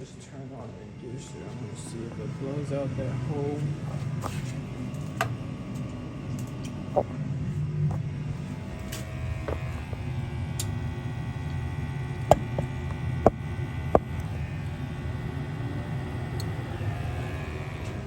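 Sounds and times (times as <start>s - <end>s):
furnace inducer motor humming: 0.0s - 18.0s.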